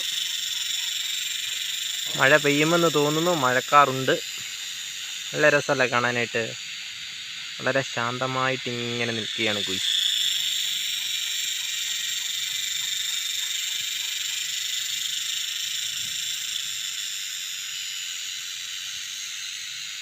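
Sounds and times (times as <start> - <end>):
cicadas calling: 0.0 - 20.0.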